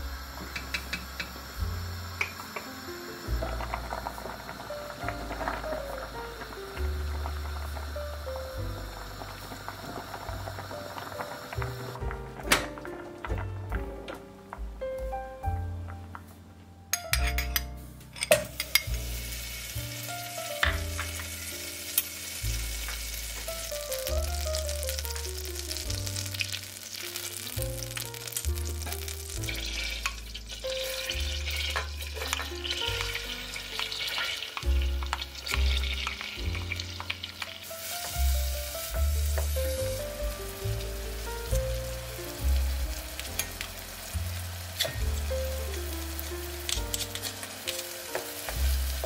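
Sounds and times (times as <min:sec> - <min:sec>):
onion sizzling in a saucepan: 0:00.0 - 0:16.2, 0:17.0 - 0:49.0
background music: 0:00.0 - 0:49.0.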